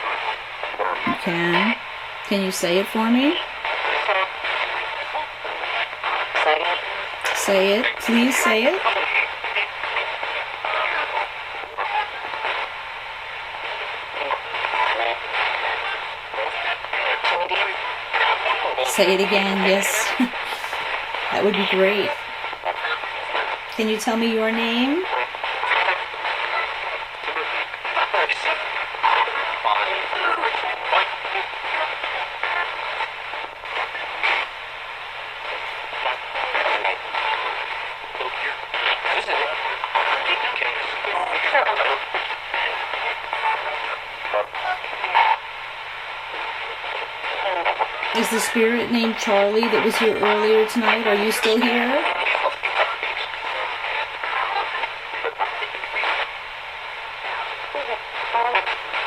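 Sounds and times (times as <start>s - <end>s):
chopped broadcast voices: 0.0s - 59.0s
radio static hiss: 0.0s - 59.0s.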